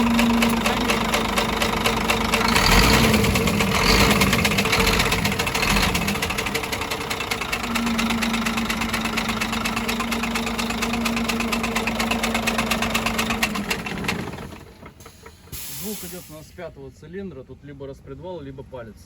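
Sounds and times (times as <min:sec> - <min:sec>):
diesel truck engine knocking at idle: 0:00.0 - 0:16.2.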